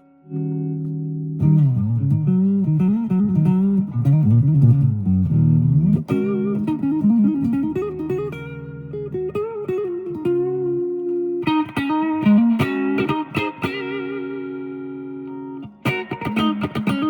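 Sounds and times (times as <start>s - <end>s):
electric guitar through an amp: 0.0s - 17.0s.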